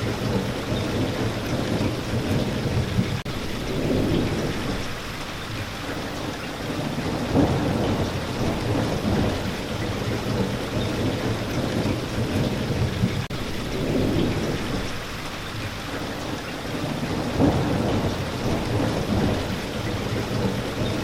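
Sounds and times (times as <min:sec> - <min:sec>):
heavy rain: 0:00.0 - 0:21.0
low rolling thunder: 0:00.0 - 0:21.0.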